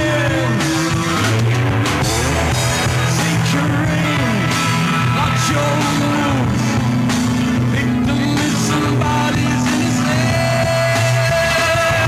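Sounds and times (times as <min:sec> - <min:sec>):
man singing: 0:00.0 - 0:01.6, 0:02.7 - 0:12.0
rock band playing: 0:00.0 - 0:12.0.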